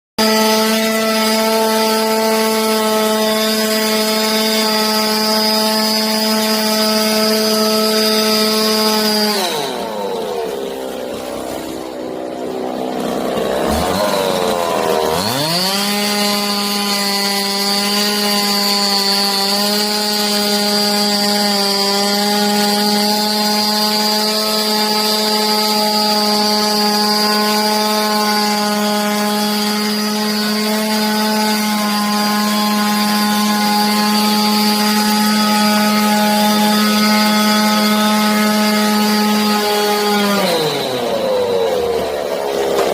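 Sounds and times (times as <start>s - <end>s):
chainsaw running at high revs: 0.2s - 42.9s.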